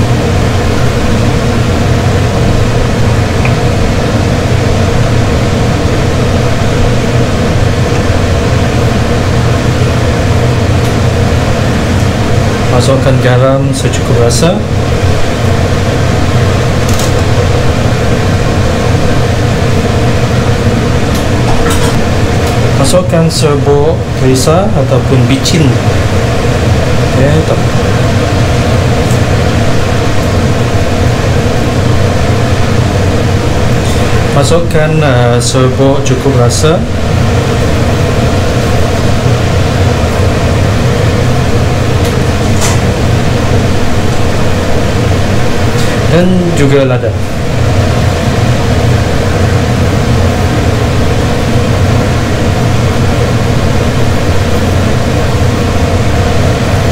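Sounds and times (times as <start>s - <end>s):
steady hum and rush: 0.0s - 56.9s.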